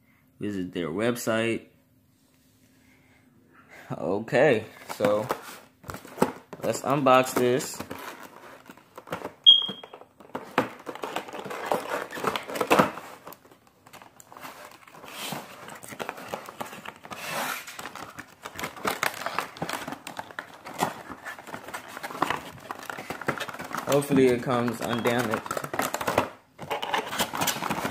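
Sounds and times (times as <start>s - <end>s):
cardboard and plastic rustling: 4.6s - 27.9s.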